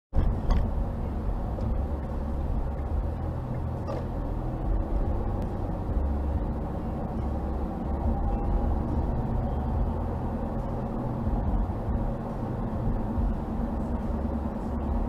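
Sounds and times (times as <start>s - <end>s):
car road and engine rumble: 0.1s - 15.0s.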